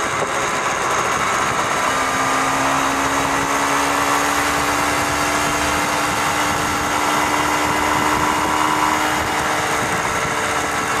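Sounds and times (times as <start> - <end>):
motorcycle engine cruising: 0.0 - 11.0
wind noise on microphone: 0.0 - 11.0.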